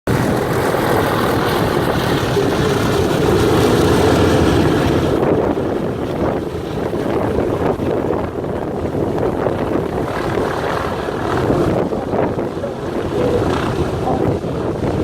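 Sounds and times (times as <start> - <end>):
propeller aircraft piston engines: 0.1 - 15.0
wind on microphone: 0.1 - 15.0.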